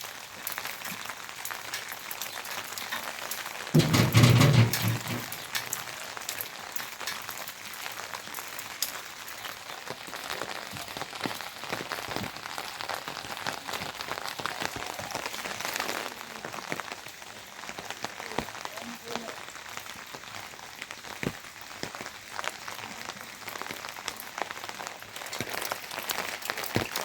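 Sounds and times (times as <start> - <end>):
raindrops striking a surface: 0.0 - 27.0
steady rain falling: 0.0 - 27.0.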